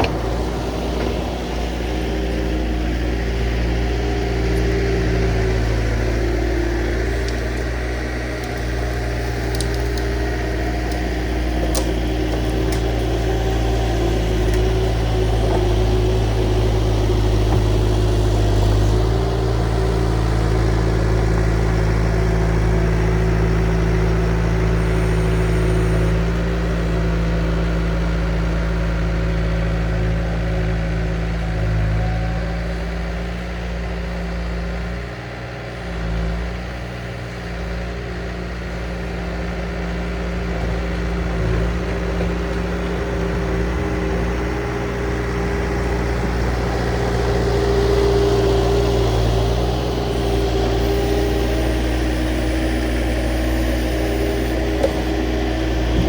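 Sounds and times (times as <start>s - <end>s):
diesel engine of earthmover: 0.0s - 56.0s.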